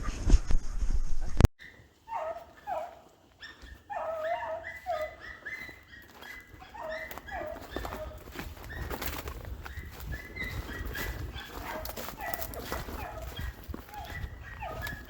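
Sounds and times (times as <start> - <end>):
distant dog yelping: 1.6 - 15.0.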